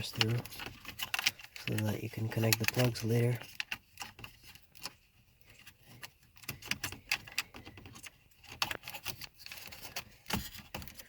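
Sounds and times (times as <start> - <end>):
plastic trim clicking and rattling: 0.0 - 11.0.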